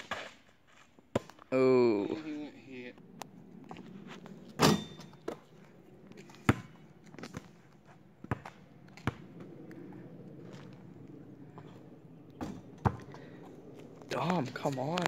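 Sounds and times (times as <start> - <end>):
faint outdoor background: 0.0 - 15.0
basketball bouncing on asphalt: 1.1 - 1.5, 3.2 - 15.0.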